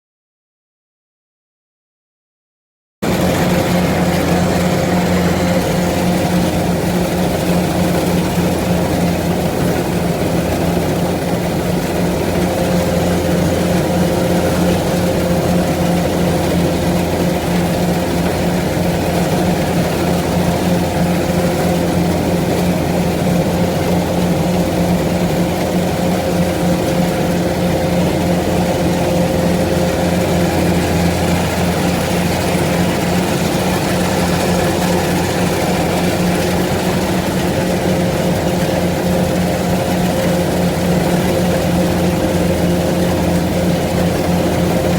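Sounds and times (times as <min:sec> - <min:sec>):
farm machine engine droning: 0:03.0 - 0:44.9.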